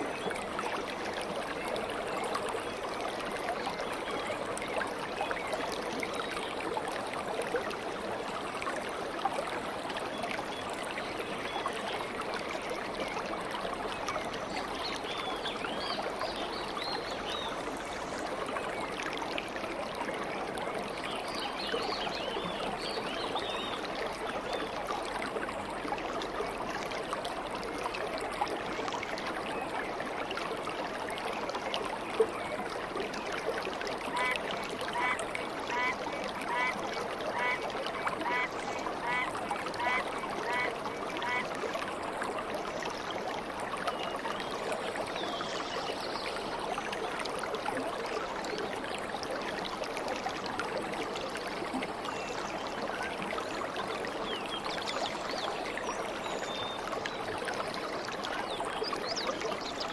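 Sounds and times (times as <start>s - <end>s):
stream rushing and trickling: 0.0s - 59.9s.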